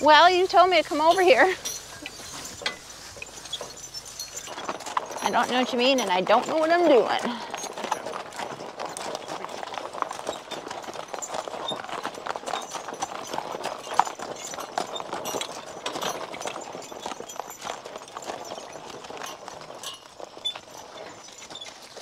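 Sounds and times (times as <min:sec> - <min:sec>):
hooves clopping on gravel: 0:00.0 - 0:22.0
wheels crunching over stones: 0:00.0 - 0:22.0.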